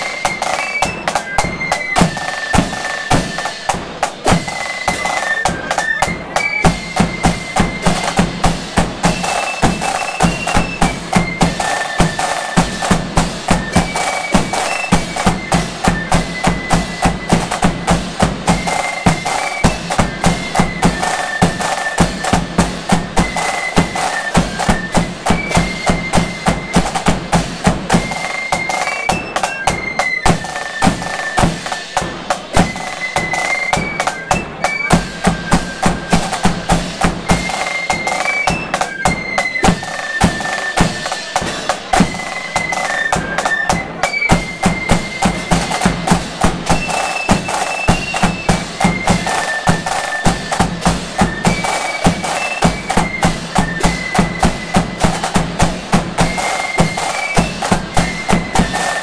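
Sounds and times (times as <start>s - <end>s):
flutes playing melody: 0.0s - 59.0s
hand cymbals: 0.0s - 59.0s
rattling side drums: 0.0s - 59.0s.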